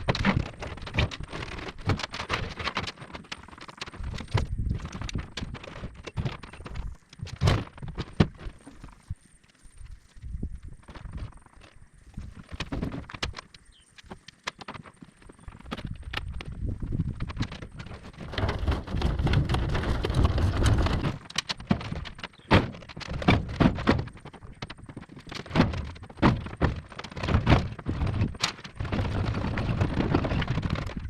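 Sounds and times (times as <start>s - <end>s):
irregular knocks and thuds: 0.0s - 9.2s, 10.2s - 31.0s
rumbling background: 0.0s - 31.0s.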